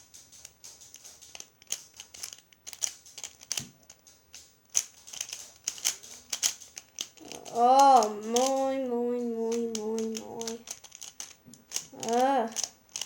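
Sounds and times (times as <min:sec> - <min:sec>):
plastic puzzle pieces clicking: 0:00.2 - 0:13.0.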